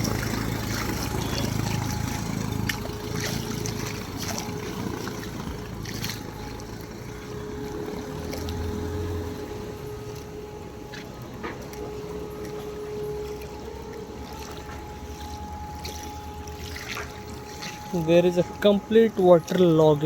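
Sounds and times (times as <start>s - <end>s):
vehicle hum: 0.0s - 20.0s
water sloshing and splashing: 0.0s - 20.0s.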